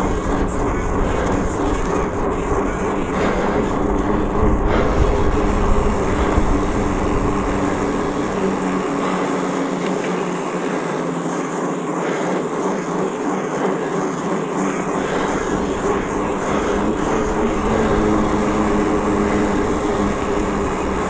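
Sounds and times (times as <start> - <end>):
heavy low rumble: 0.0 - 21.0
off-road vehicle engine running: 0.0 - 21.0.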